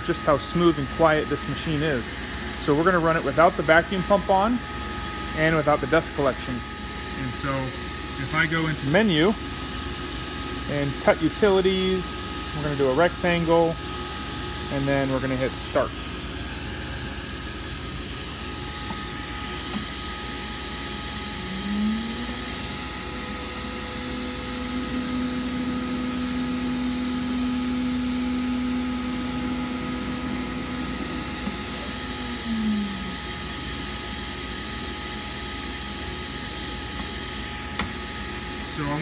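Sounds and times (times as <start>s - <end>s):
router spindle whine: 0.0s - 39.0s.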